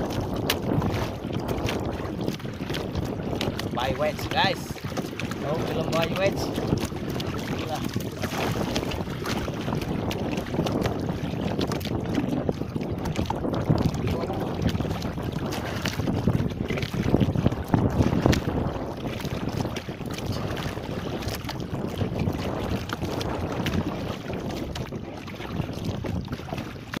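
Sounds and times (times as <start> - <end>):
water lapping against boat: 0.0 - 27.0
wind noise on microphone: 0.0 - 27.0.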